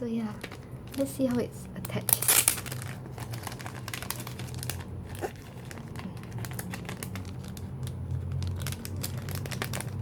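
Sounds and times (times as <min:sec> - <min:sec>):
packaging crinkling: 0:00.2 - 0:10.0.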